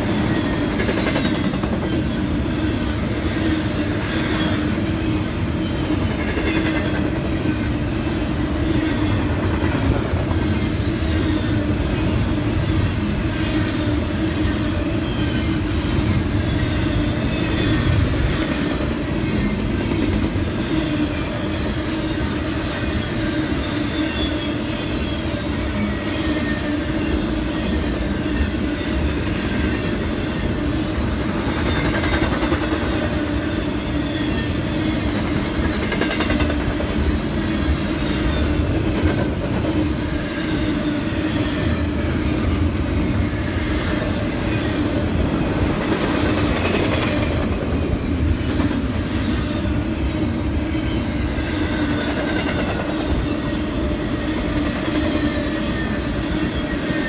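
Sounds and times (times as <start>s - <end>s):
freight train rolling past: 0.0s - 57.0s
steel wheels clattering on rails: 0.0s - 57.0s.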